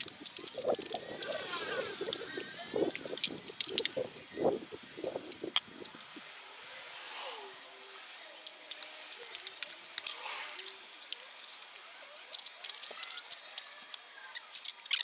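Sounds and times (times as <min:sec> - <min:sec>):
scratchy clicks of plastic parts: 0:00.0 - 0:06.4, 0:07.1 - 0:15.0
faint thin gliding tones: 0:00.0 - 0:15.0.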